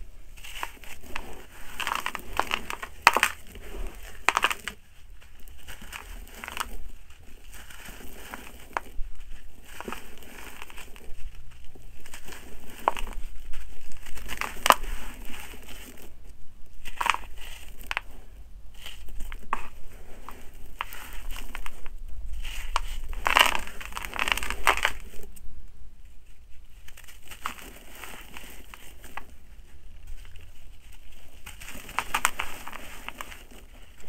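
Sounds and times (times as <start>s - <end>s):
grit falling into soil: 0.0s - 34.0s
hands crushing dry soil: 0.0s - 34.0s.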